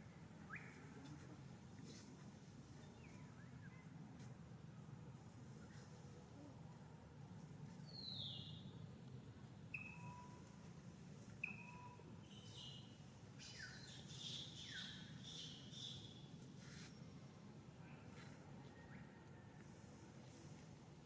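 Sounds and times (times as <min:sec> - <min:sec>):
faint bird calls and chirps: 0:00.4 - 0:04.4, 0:05.5 - 0:06.8, 0:07.6 - 0:08.9, 0:09.6 - 0:20.6.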